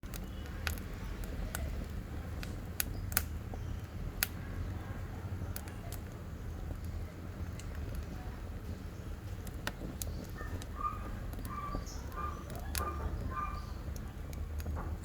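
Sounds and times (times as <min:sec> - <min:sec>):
fire crackling and popping: 0:00.0 - 0:15.0
fire rumbling in stove: 0:00.0 - 0:15.0.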